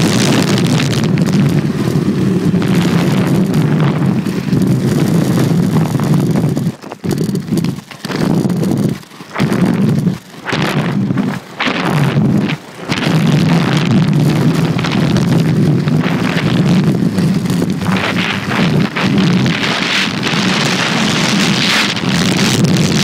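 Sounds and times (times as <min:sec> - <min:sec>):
skate wheels rumbling on asphalt: 0:00.0 - 0:23.0.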